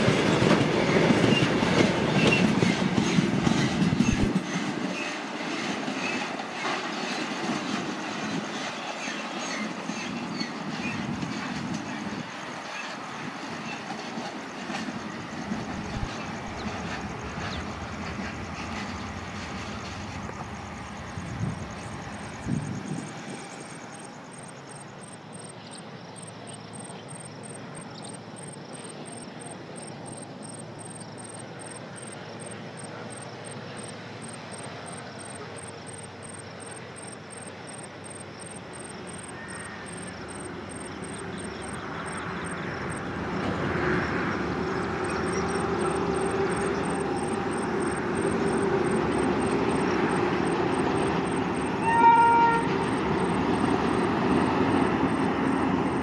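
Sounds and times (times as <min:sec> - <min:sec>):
insects chirping: 0:00.0 - 0:56.0
passenger train rumbling: 0:00.0 - 0:56.0.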